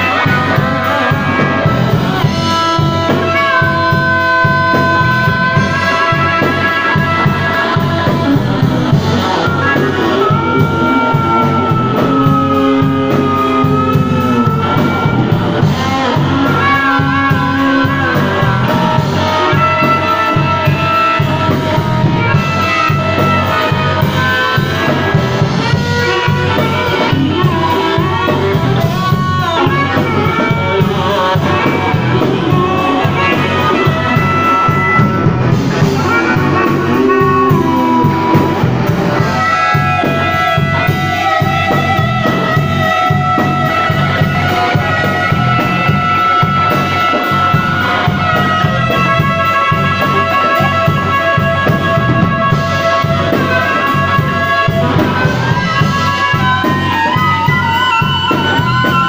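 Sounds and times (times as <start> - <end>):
amplified harmonica: 0.0 - 59.0
drum kit: 0.0 - 59.0
electric guitar: 0.0 - 59.0.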